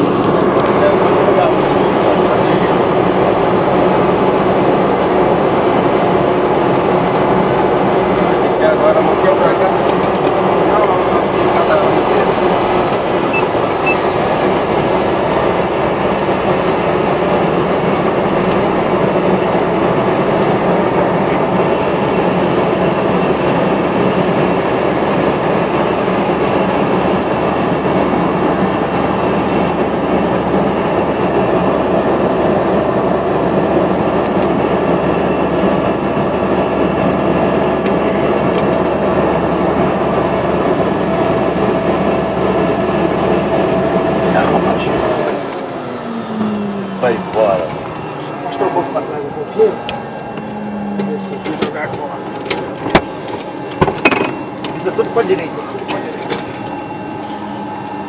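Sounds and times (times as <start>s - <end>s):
turboprop engine running: 0.0s - 58.0s.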